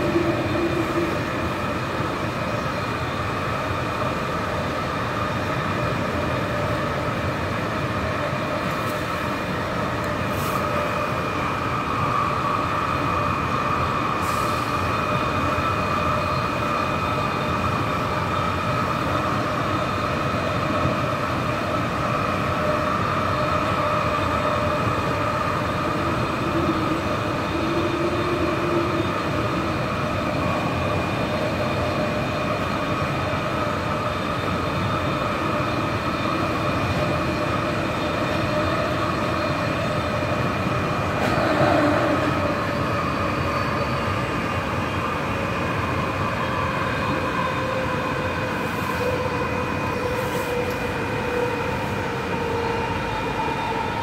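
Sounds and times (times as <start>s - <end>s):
high motor whine: 0.0s - 54.0s
rumble of train wheels: 0.0s - 54.0s.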